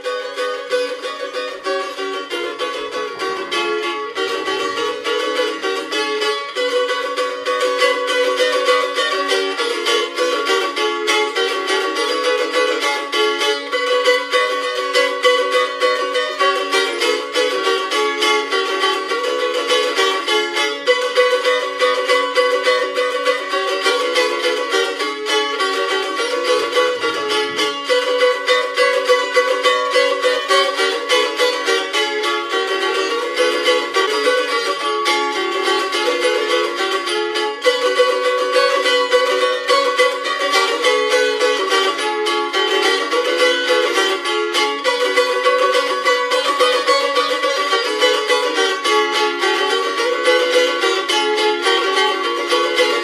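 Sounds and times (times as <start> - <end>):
plucked string folk melody: 0.0 - 53.0.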